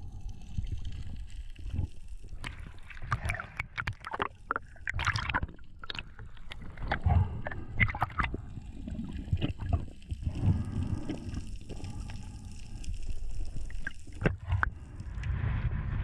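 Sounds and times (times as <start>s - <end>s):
underwater rumbling water movement: 0.0s - 16.0s.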